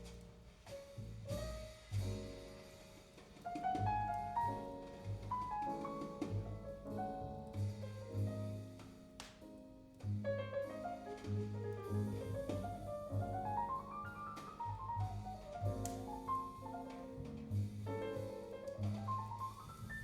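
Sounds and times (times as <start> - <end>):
double bass: 0.0 - 9.1, 10.0 - 20.0
piano notes: 0.0 - 20.0.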